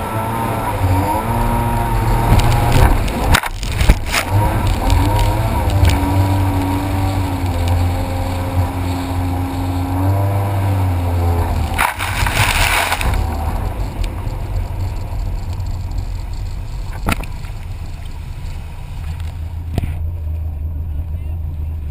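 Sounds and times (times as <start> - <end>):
jet ski engine running: 0.0 - 21.9
loud rush of noise: 0.6 - 19.7.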